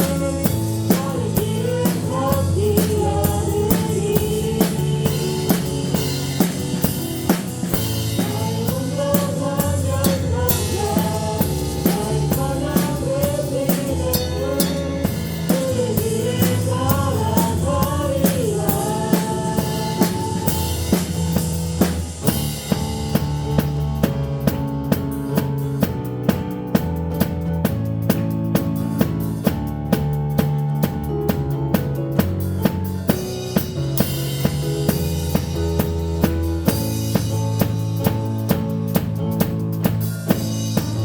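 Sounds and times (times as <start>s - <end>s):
drum kit beat: 0.0s - 41.0s
live praise band: 0.0s - 41.0s.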